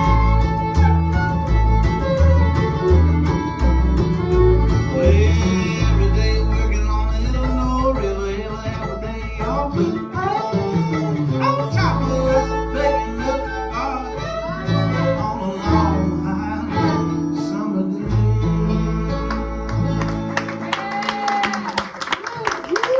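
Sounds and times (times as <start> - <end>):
bluegrass string band playing: 0.0 - 21.5.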